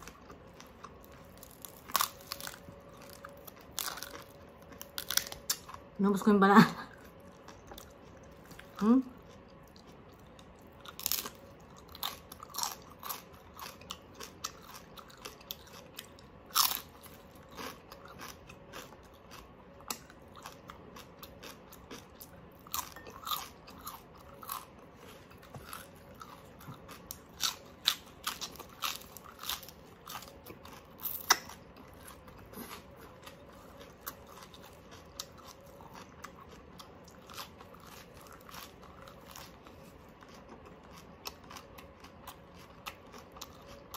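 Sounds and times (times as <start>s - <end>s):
crunchy chewing: 0.0s - 5.9s, 7.0s - 43.9s.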